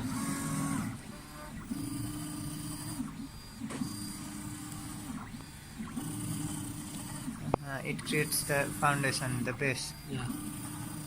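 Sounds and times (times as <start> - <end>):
stepper motors whining: 0.0 - 11.0.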